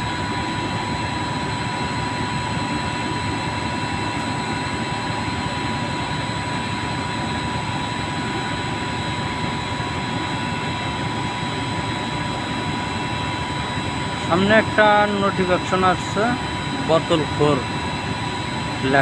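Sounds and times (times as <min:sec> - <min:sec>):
high whine: 0:00.0 - 0:19.0.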